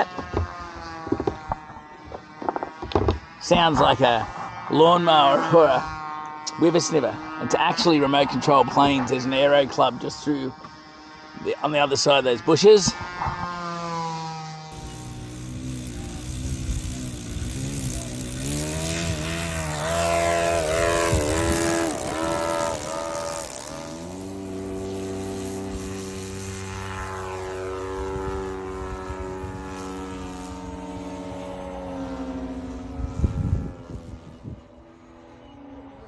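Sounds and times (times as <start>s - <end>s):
model plane engines buzzing: 0.0s - 36.0s.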